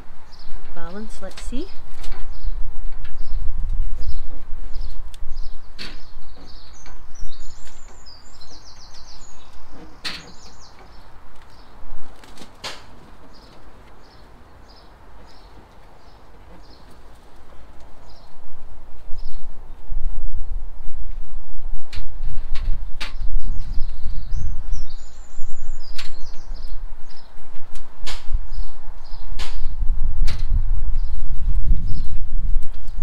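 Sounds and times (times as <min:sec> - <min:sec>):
garden birds chirping: 0:00.0 - 0:21.2, 0:21.8 - 0:33.0.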